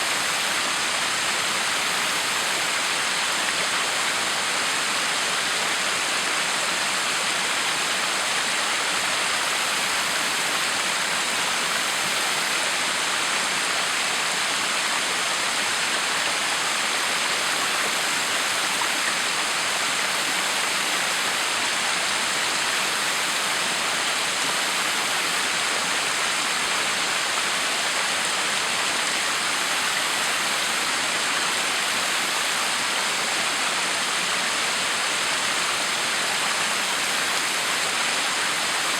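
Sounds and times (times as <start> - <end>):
water pouring down waterfall: 0.0 - 38.9.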